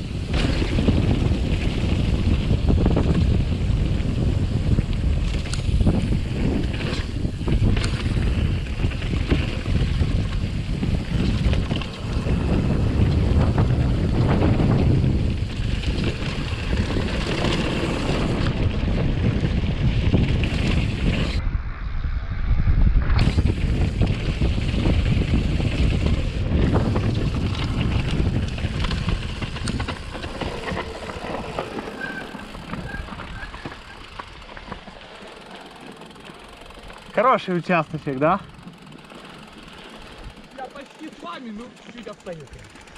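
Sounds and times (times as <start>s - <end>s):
bike rattling over rough trail: 0.0s - 21.4s, 23.2s - 42.9s
wind buffeting microphone: 0.0s - 35.0s.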